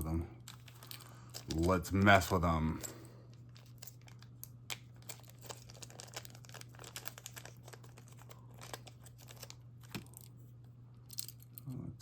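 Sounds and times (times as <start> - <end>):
handcuffs clicking and rattling: 0.4 - 10.3, 11.0 - 11.7.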